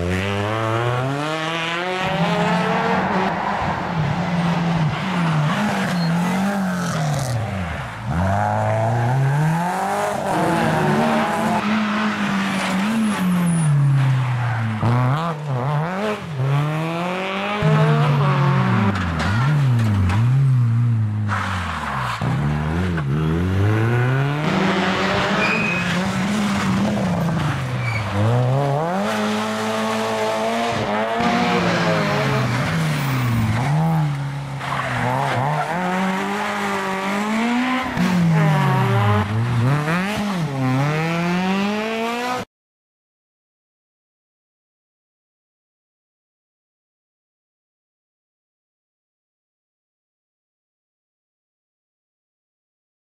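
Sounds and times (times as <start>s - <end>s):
rally car engines revving: 0.0s - 42.5s.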